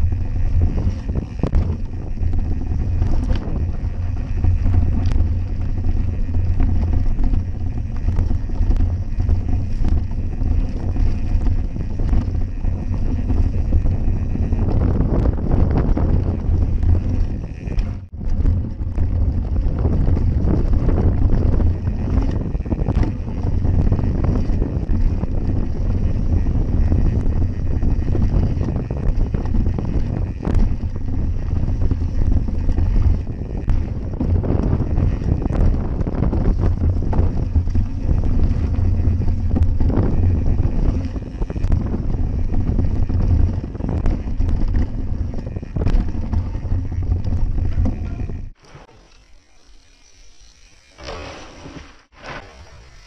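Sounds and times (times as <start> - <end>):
wind buffeting microphone: 0.0 - 48.6
bike rattling and knocking: 0.0 - 53.0.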